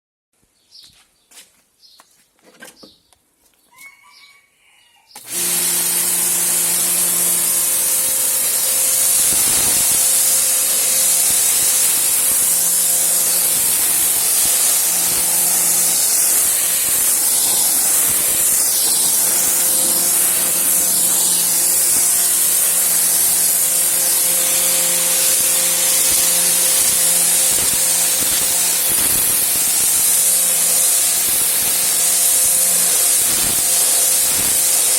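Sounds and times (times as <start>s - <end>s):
electric motor humming: 5.2s - 34.9s
high-pressure water jet hissing: 5.2s - 34.9s.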